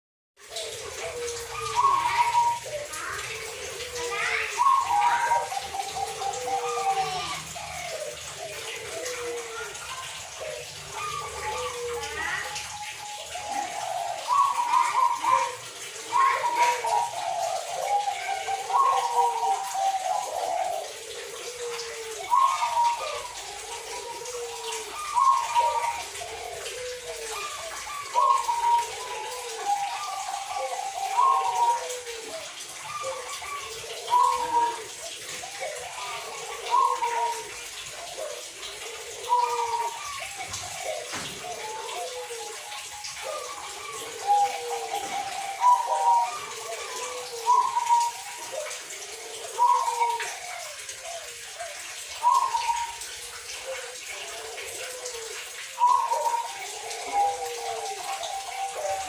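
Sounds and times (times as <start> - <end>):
doves cooing: 0.4 - 59.0.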